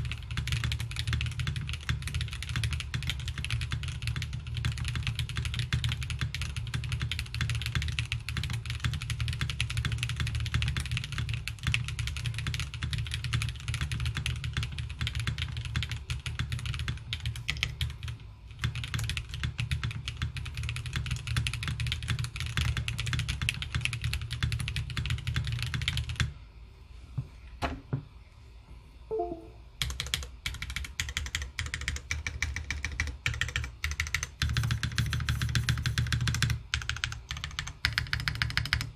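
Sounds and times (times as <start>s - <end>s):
fast mechanical keyboard typing: 0.0s - 26.3s, 29.8s - 38.9s.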